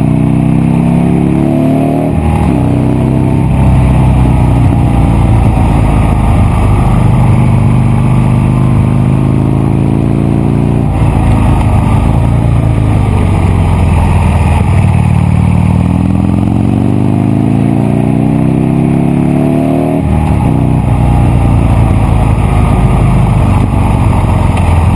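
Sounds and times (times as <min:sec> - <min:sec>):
motorcycle engine running under load: 0:00.0 - 0:24.9.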